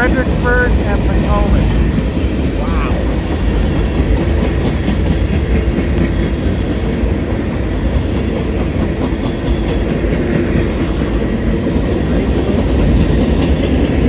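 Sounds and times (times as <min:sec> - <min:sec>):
freight train rumbling past: 0:00.0 - 0:14.0
wheels clacking over rail joints: 0:00.0 - 0:14.0.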